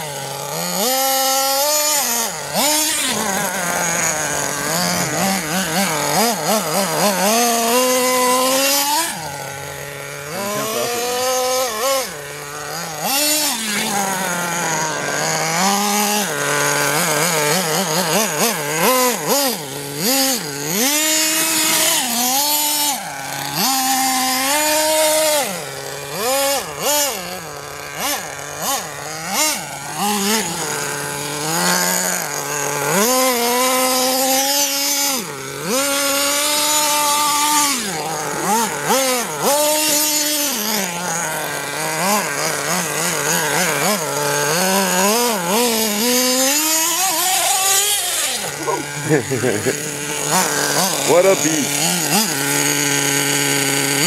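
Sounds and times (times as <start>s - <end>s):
small nitro engine revving: 0.0s - 54.0s.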